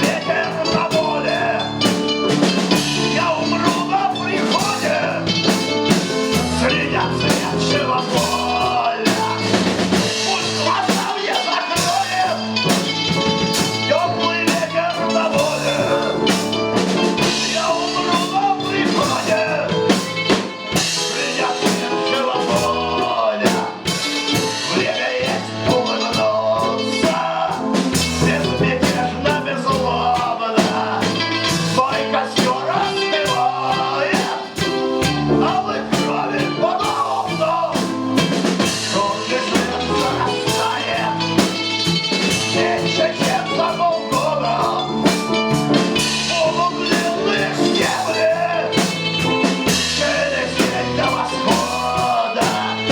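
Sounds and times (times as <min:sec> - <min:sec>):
bass guitar: 0:00.0 - 0:52.9
drum kit: 0:00.0 - 0:52.9
person singing lead melody: 0:00.0 - 0:52.9
rock blues band playing: 0:00.0 - 0:52.9.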